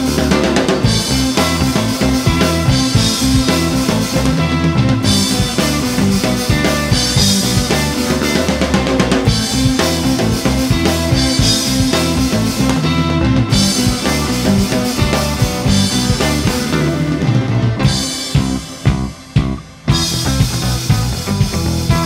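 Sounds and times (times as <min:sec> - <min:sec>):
drum kit: 0:00.0 - 0:22.0
live rock band playing: 0:00.0 - 0:22.0.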